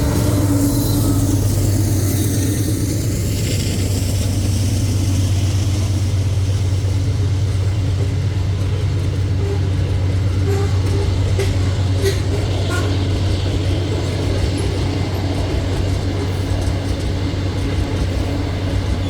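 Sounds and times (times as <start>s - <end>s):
diesel locomotive engine drone: 0.0s - 19.0s
wheel and rail hiss: 0.0s - 19.0s.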